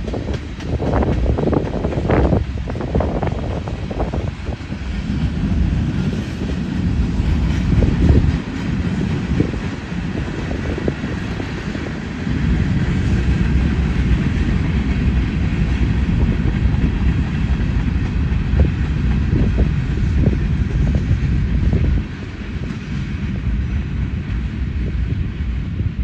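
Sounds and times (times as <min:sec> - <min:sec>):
steel wheels rumbling on rail: 0:00.0 - 0:26.0.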